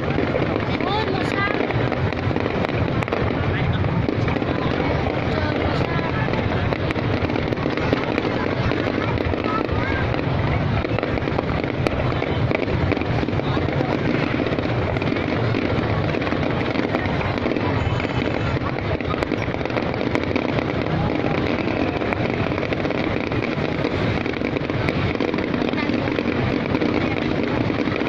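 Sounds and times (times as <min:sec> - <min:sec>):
fireworks booming and crackling: 0:00.0 - 0:28.0.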